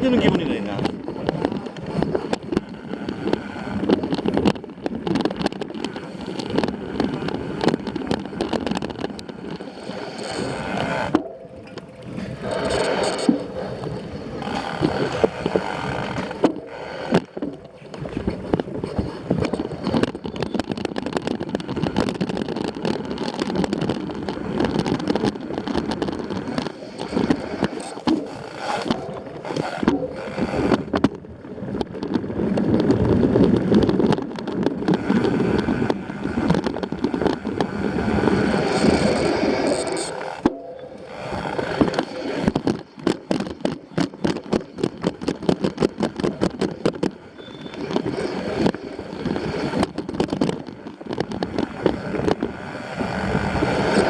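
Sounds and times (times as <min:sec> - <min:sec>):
bike clattering over bumps: 0:00.0 - 0:54.0.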